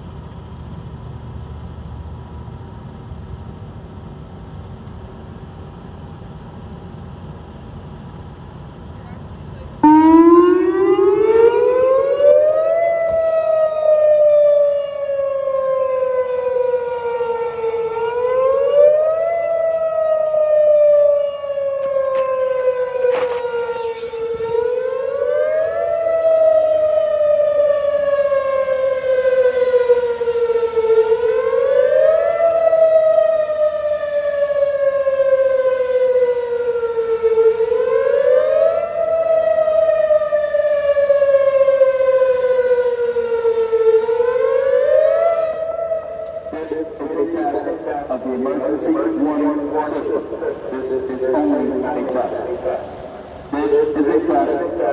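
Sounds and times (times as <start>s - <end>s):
warning siren wailing: 9.0s - 54.9s.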